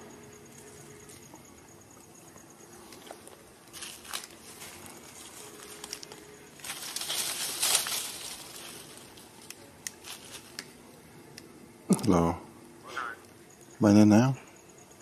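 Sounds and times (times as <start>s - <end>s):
outdoor rustling and crackling: 0.0s - 15.0s.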